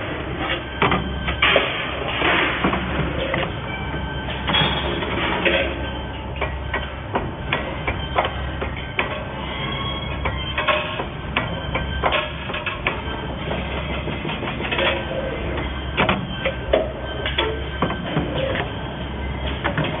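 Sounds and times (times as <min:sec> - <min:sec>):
steady low machine hum: 0:00.0 - 0:20.0.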